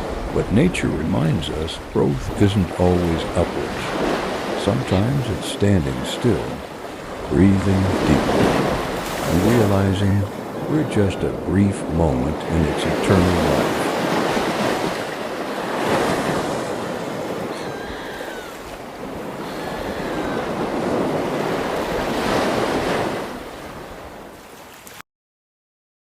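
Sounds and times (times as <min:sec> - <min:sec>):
ocean waves surging: 0:00.0 - 0:25.0.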